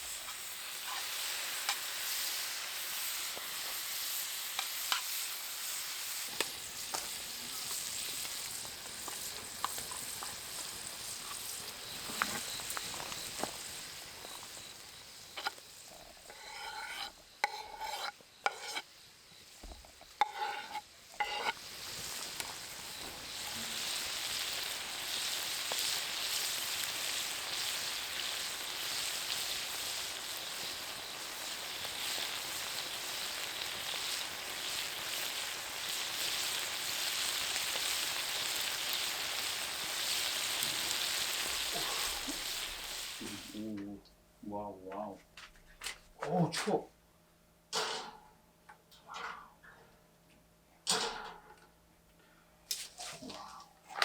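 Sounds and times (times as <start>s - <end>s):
food sizzling in a pan: 0.0s - 43.7s.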